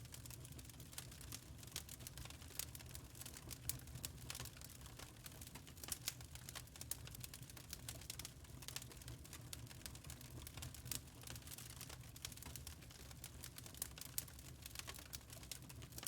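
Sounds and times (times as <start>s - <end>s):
low rumble of burning fire: 0.0s - 16.0s
wood fire crackling: 0.0s - 16.0s.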